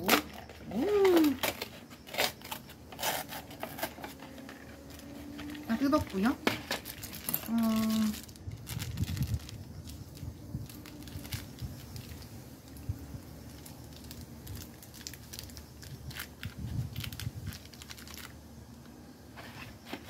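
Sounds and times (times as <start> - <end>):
plastic packet crinkling and tearing: 0.0 - 18.4.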